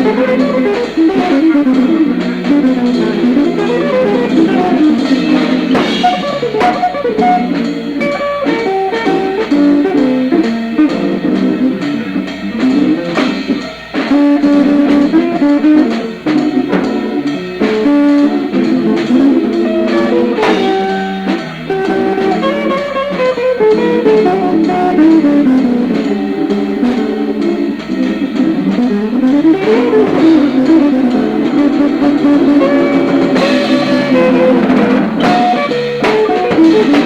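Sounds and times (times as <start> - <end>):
guitar: 0.0 - 37.0
jazz combo playing: 0.0 - 37.0.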